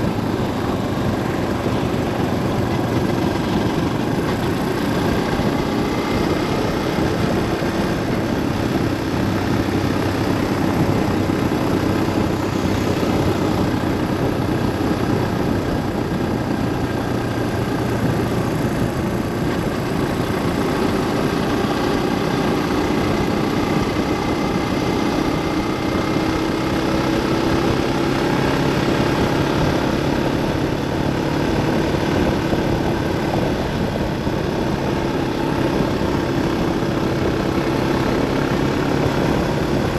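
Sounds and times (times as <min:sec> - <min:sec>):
vehicle engine and tyre hum: 0:00.0 - 0:39.9.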